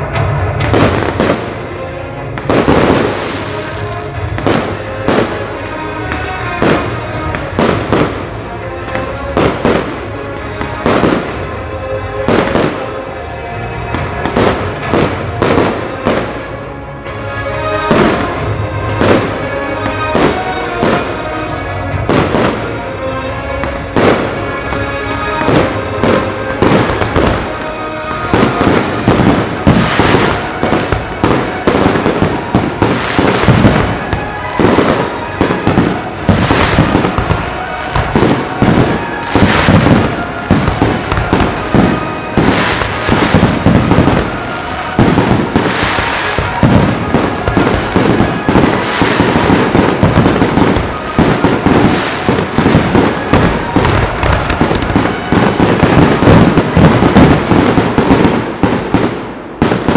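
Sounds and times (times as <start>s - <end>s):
fireworks barrage with crackle: 0.0s - 59.9s.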